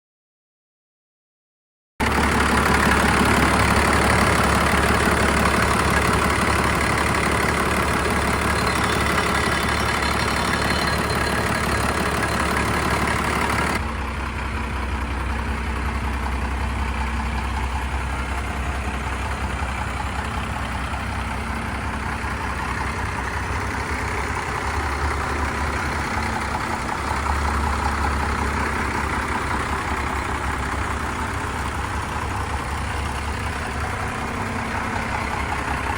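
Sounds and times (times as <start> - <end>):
diesel engine idling: 2.0 - 35.9.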